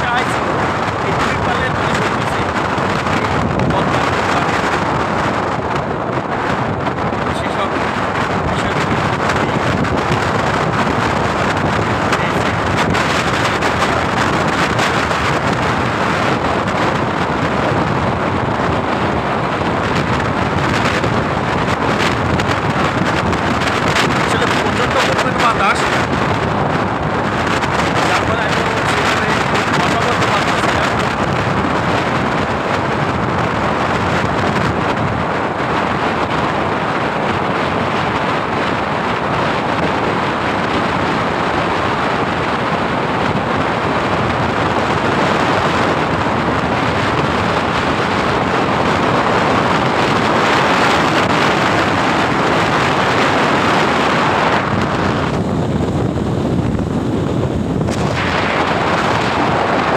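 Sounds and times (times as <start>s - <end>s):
vehicle running noise: 0.0s - 59.9s
wind rushing over microphone: 0.0s - 59.9s.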